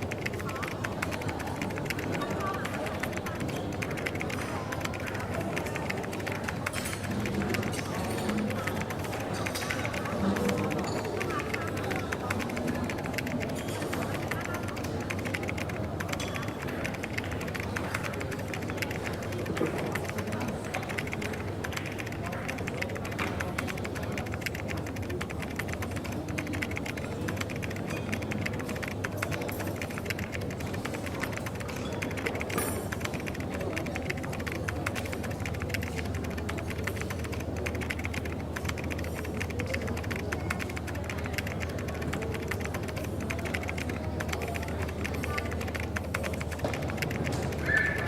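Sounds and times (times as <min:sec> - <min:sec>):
indistinct murmur of voices: 0:00.0 - 0:48.0
keyboard key clicks: 0:00.0 - 0:48.0.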